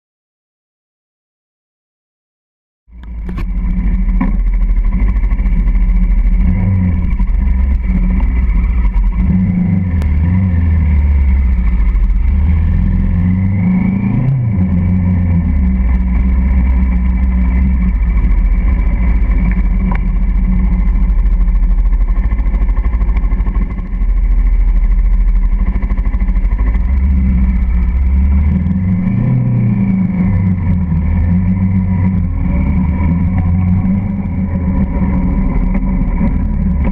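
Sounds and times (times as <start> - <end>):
motorcycle engine: 2.9 - 36.9
wind and road noise: 2.9 - 36.9.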